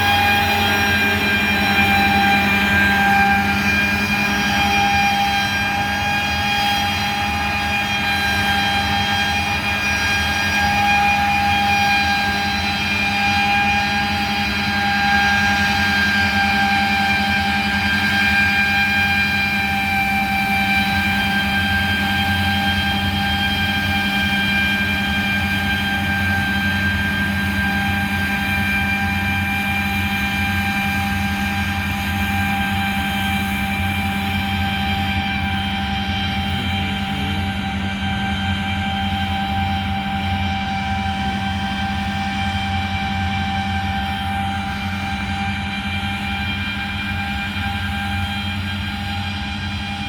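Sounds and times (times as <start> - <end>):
farm machinery engine hum: 0.0 - 50.0
high steady whine: 0.0 - 50.0.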